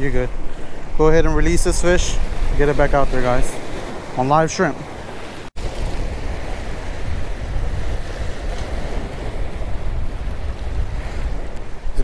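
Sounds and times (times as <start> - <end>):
sea waves breaking on rocks: 0.0 - 12.0
wind buffeting microphone: 0.0 - 12.0.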